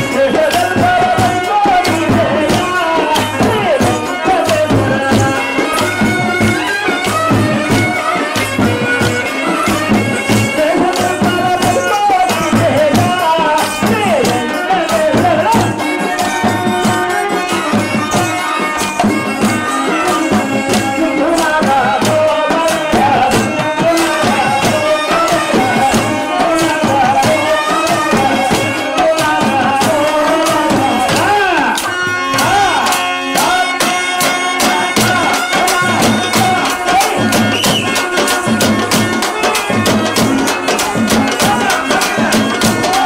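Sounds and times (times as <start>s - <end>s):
folk music melody: 0.0s - 43.0s
sharp clicking percussion: 0.0s - 43.0s.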